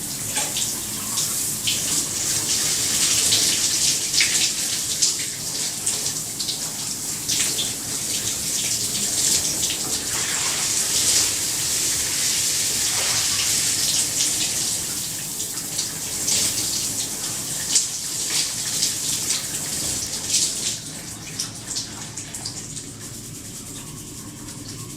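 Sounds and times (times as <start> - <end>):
shower water spraying: 0.0 - 24.9.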